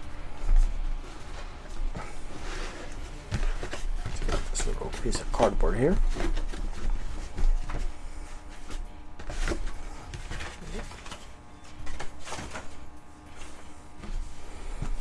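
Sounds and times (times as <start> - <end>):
packaging rustling: 0.1 - 12.8.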